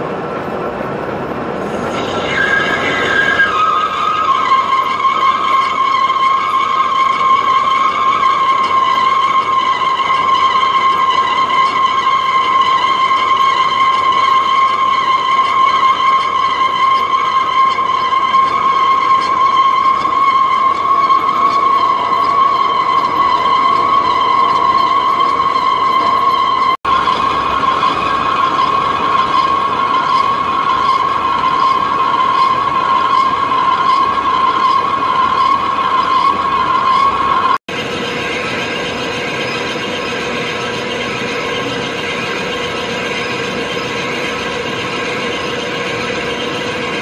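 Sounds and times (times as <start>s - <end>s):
lathe high-pitched whine: 0.0s - 47.0s.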